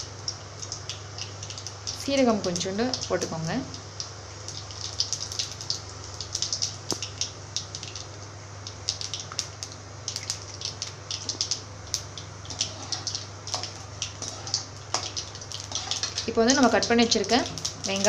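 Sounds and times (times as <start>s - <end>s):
hot oil sizzling: 0.0s - 18.0s
seeds crackling and popping in oil: 0.0s - 18.0s.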